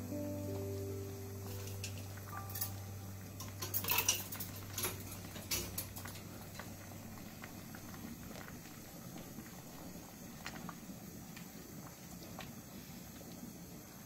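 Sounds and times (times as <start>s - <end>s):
low steady hum: 0.0s - 14.0s
soup boiling: 0.0s - 14.0s.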